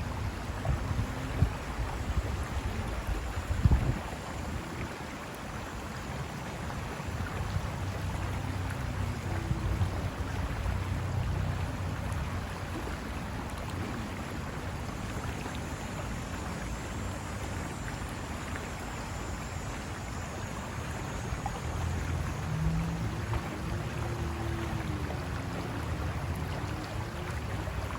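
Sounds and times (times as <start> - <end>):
river water rushing over rocks: 0.0 - 27.9.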